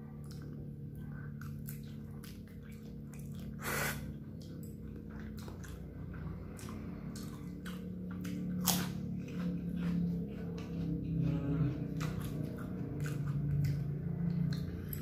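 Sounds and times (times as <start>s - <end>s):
person chewing and slurping noodles: 0.0s - 15.0s.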